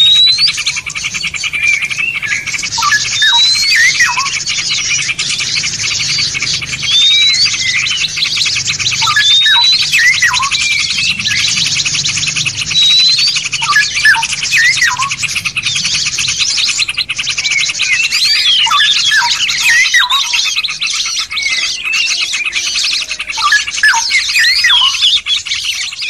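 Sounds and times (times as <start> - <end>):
songbirds chorus trilling: 0.0 - 26.0.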